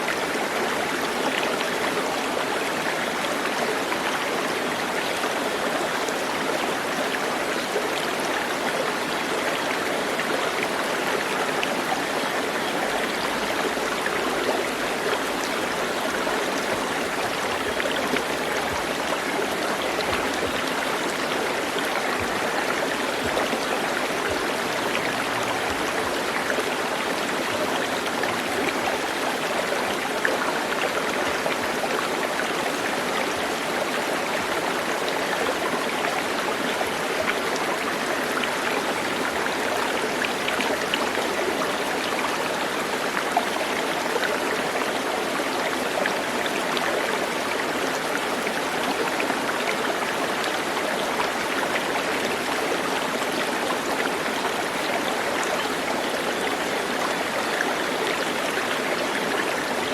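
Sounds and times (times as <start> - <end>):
stream water splashing and trickling: 0.0 - 59.9.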